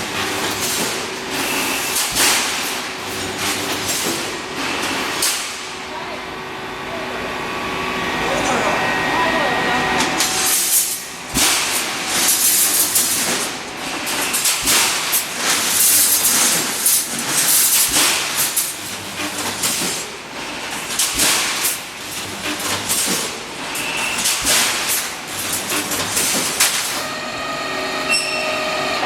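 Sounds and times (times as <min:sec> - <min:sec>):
steady mechanical noise: 0:00.0 - 0:29.0.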